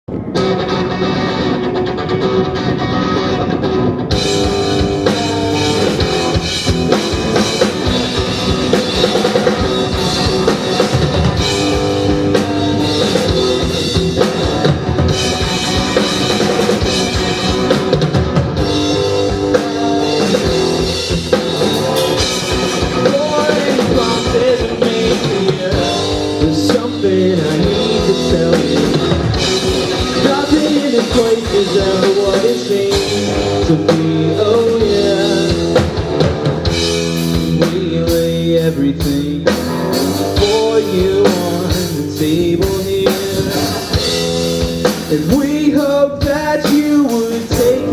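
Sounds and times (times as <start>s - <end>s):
electric guitars and bass: 0.0s - 47.9s
drum kit beat: 4.1s - 47.9s.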